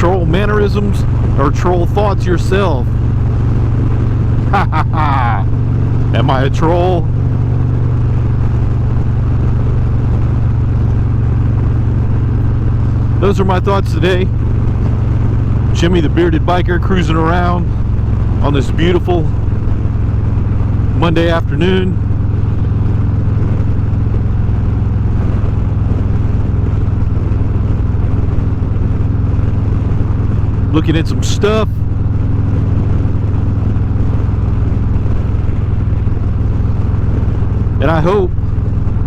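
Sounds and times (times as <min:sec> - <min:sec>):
motorcycle engine cruising: 0:00.0 - 0:39.0
road noise: 0:00.0 - 0:39.0.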